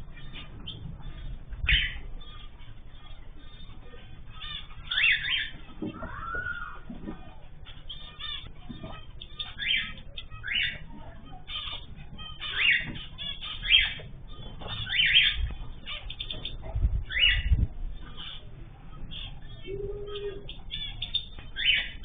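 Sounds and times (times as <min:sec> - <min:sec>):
caged birds chirping: 0:00.0 - 0:22.0.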